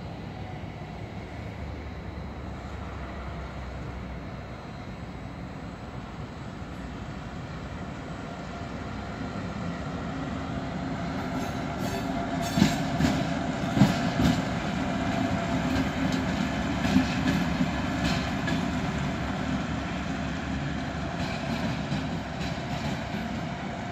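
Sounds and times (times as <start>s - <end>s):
diesel locomotive engine drone: 0.0s - 23.9s.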